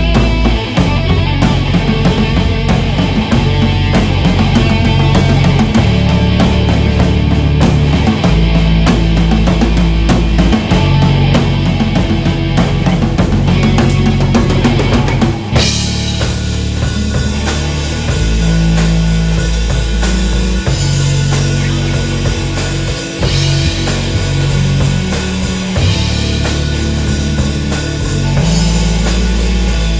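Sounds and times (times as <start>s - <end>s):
drum kit playing: 0.0s - 29.9s
electric bass notes: 0.0s - 29.9s
guitars: 0.0s - 29.9s.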